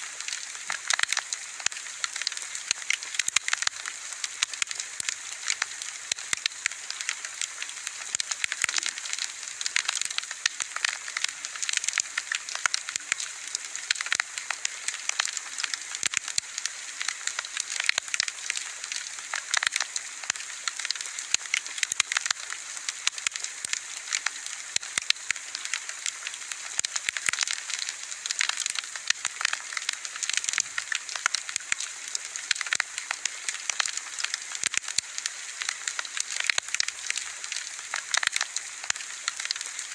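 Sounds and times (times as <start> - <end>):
bonfire crackling and popping: 0.1 - 39.9.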